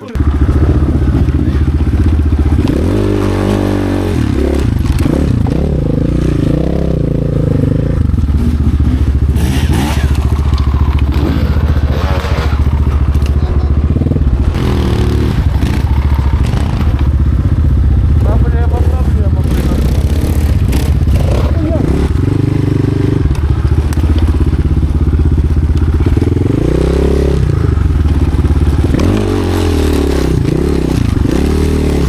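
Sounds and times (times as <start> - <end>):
clatter and scraping: 0.0 - 32.0
motorcycle engine revving: 0.0 - 32.0.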